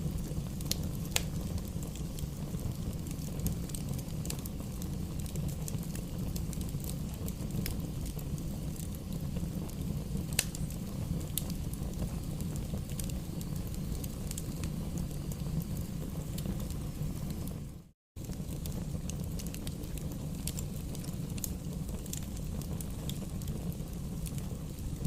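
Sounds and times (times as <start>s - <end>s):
bonfire crackling and popping: 0.0s - 25.0s
low fire rumble: 0.0s - 25.0s.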